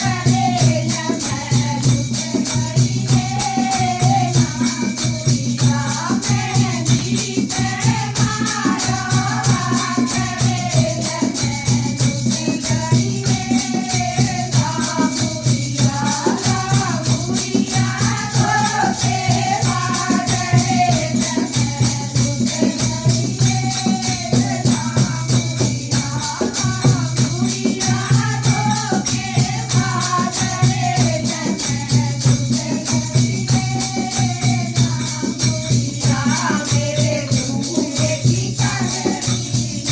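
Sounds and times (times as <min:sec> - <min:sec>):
jingling hand percussion: 0:00.0 - 0:39.9
person singing devotional song: 0:00.0 - 0:39.9.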